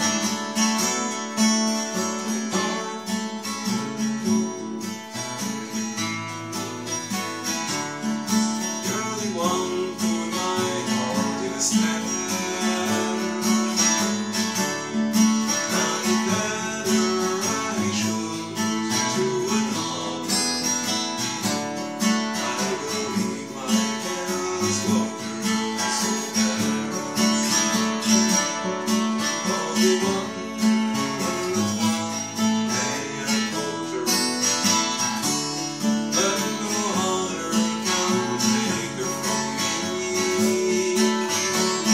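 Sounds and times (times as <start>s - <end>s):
acoustic guitar strummed: 0.0s - 41.9s.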